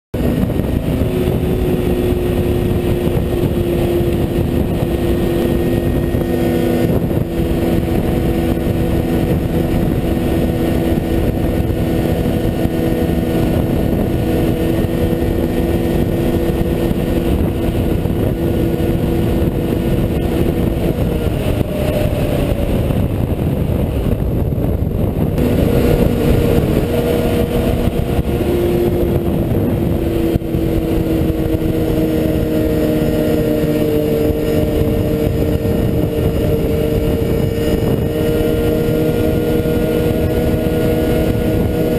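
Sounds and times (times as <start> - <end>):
snowmobile engine running: 0.1 - 41.9.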